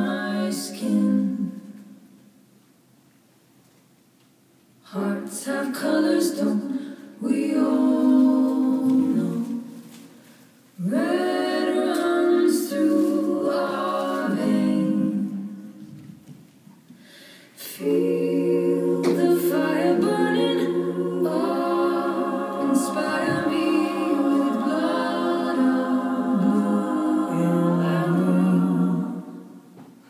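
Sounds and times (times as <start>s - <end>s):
a cappella group singing: 0.0s - 2.1s, 4.8s - 16.0s, 17.4s - 30.0s.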